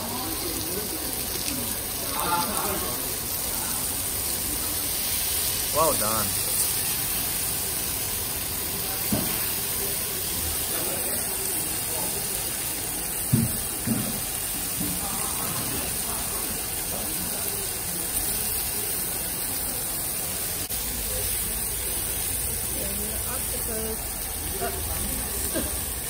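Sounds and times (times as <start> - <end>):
meat sizzling on grill pan: 0.0 - 26.0.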